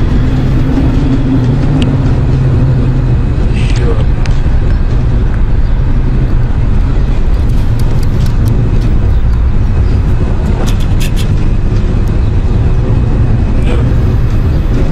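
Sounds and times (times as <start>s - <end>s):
loud low rumble: 0.0s - 14.9s.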